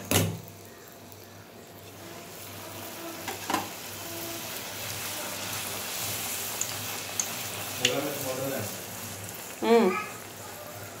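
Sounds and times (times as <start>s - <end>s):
dough sizzling in hot oil: 0.0s - 11.0s.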